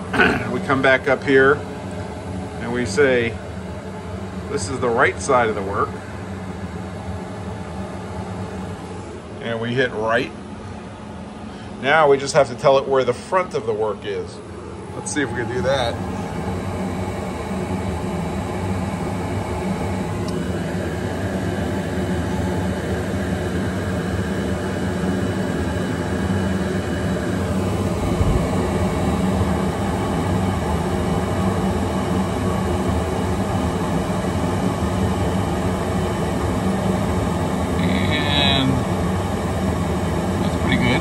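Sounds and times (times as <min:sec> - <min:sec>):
grinder machine hum and whine: 0:00.0 - 0:41.0.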